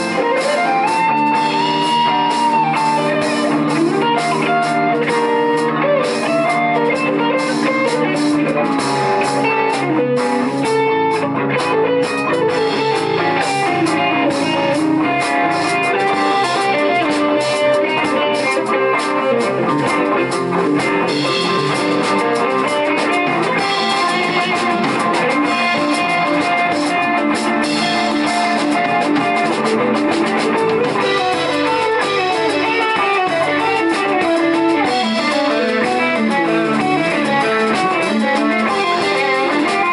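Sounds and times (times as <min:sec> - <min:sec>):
drum kit: 0:00.0 - 0:39.9
electric bass: 0:00.0 - 0:39.9
electric guitars playing lead lines: 0:00.0 - 0:39.9.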